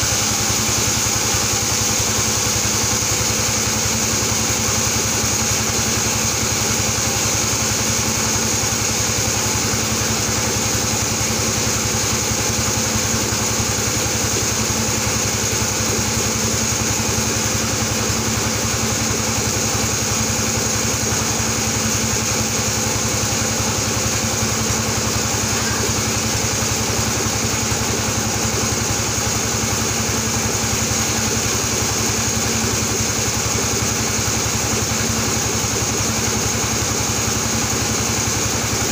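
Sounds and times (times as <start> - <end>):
band sawmill droning: 0.0 - 38.9.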